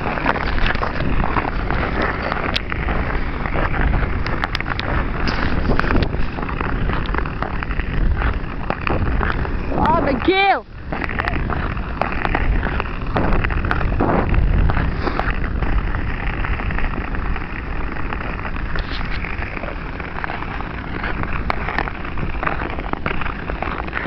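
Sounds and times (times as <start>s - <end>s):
ice skate blades scraping ice: 0.0s - 24.0s
wind rumble on microphone: 0.0s - 24.0s.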